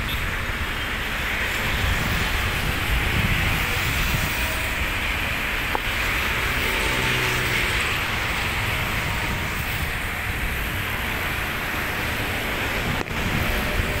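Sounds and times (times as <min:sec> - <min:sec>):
distant jet engine rumble: 0:00.0 - 0:14.0.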